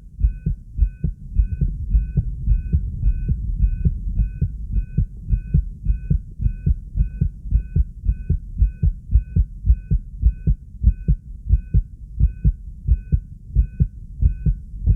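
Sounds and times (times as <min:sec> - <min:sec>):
fast heartbeat thumps: 0:00.0 - 0:14.9.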